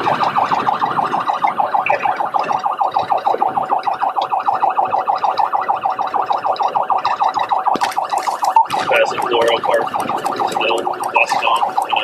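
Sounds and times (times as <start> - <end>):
police siren warbling: 0.0 - 12.0.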